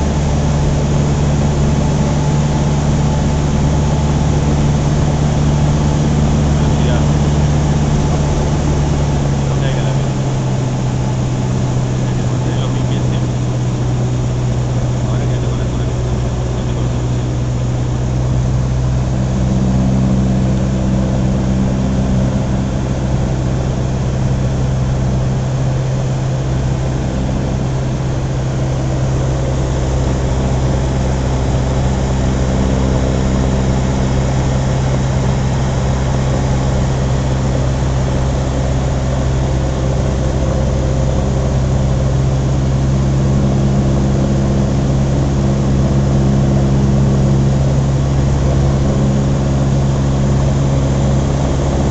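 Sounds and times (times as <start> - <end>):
aircraft engine and propeller droning: 0.0 - 51.9.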